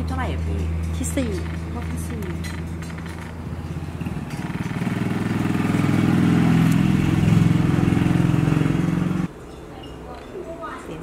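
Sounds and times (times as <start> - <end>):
engine running: 0.0 - 9.3.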